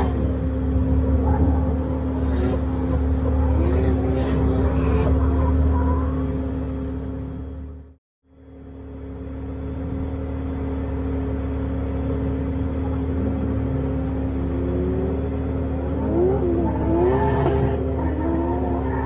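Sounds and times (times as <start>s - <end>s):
car engine revving: 0.0s - 8.0s, 9.8s - 19.0s.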